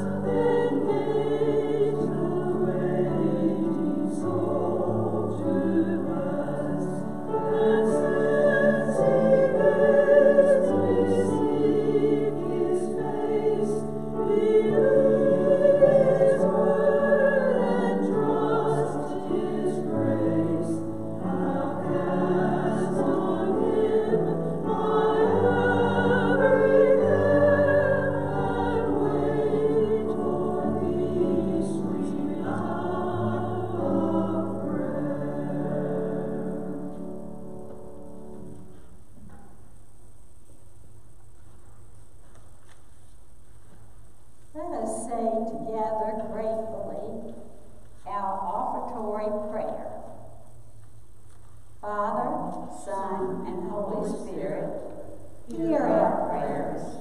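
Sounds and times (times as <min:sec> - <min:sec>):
choir singing sacred music: 0:00.0 - 0:39.4, 0:41.4 - 0:57.0.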